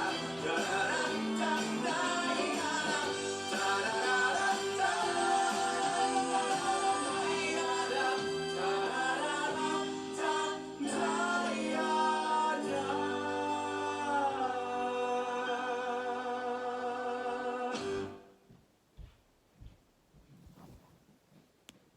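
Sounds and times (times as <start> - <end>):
show tune singing with instruments: 0.0 - 18.2.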